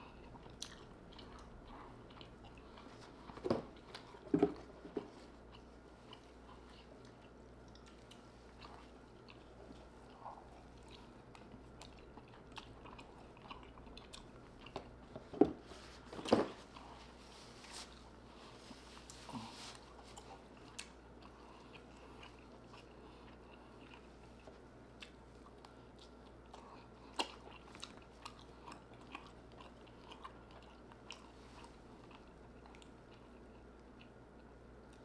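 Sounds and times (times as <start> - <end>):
person chewing and crunching: 0.0 - 15.1, 17.8 - 35.0.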